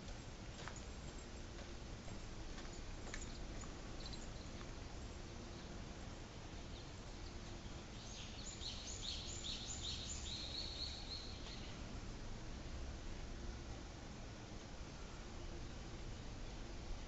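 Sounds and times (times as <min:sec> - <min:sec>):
low outdoor background noise: 0:00.0 - 0:17.0.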